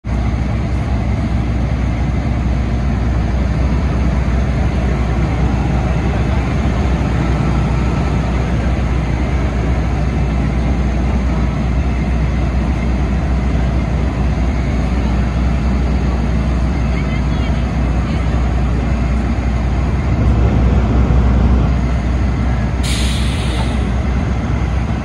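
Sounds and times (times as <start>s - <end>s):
drilling rig engine running: 0.1s - 25.0s.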